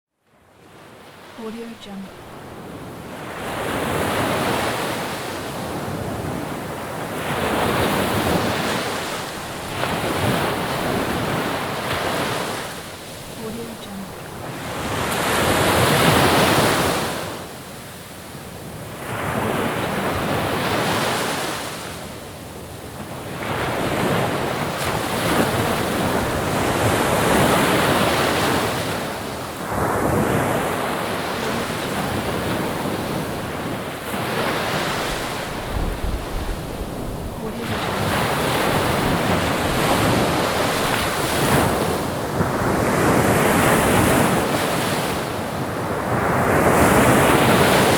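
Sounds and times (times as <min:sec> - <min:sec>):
sea waves breaking on shore: 0:00.4 - 0:47.9.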